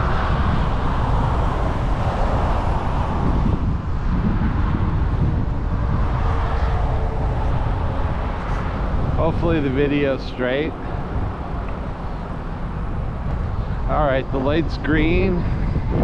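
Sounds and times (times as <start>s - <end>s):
tyre and road noise: 0.0s - 16.0s
wind rushing on microphone: 0.0s - 16.0s.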